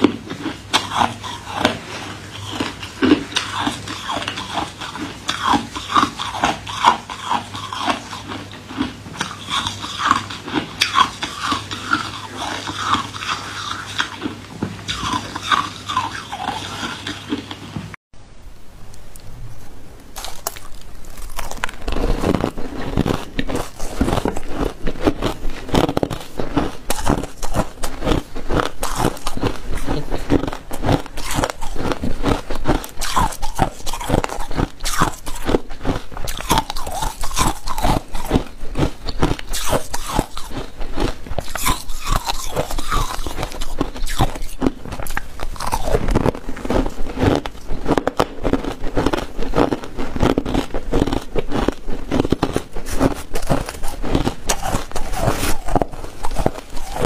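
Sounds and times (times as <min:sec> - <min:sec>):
ice being chewed: 0:00.0 - 0:17.8, 0:20.2 - 0:57.0.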